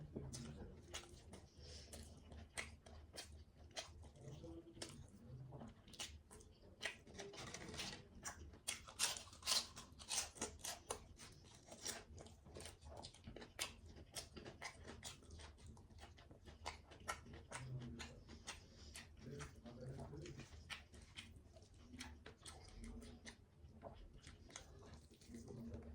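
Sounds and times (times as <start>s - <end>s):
wet chewing clicks and smacks: 0.2s - 25.9s.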